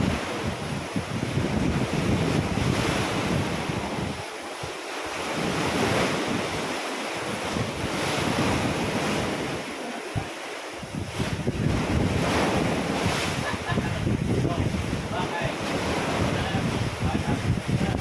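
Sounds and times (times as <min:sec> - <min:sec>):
ocean waves washing on shore: 0:00.0 - 0:18.0
wind buffeting microphone: 0:00.0 - 0:18.0.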